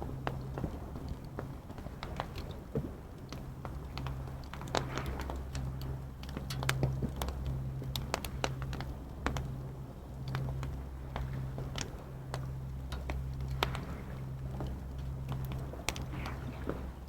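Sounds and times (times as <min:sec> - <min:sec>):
low steady hum: 0:00.0 - 0:17.0
wood fire crackling and popping: 0:00.0 - 0:17.0.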